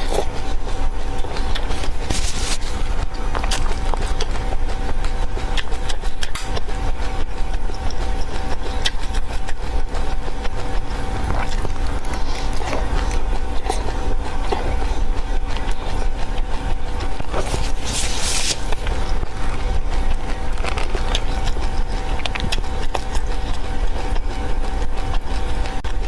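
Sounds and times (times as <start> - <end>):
low hum: 0.0 - 26.0
seeds crunching as chewed: 0.0 - 26.0.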